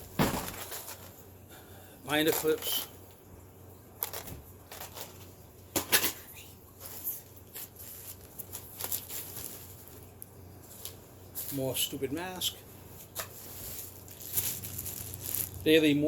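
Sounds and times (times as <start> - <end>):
plastic wrapping crinkling: 0.0 - 1.3, 2.1 - 3.0, 3.9 - 5.5, 6.7 - 16.0.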